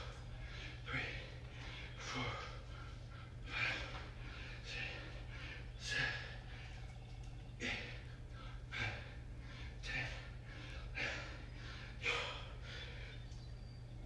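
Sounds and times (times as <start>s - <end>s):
man breathing hard: 0.0s - 7.0s, 7.6s - 13.5s.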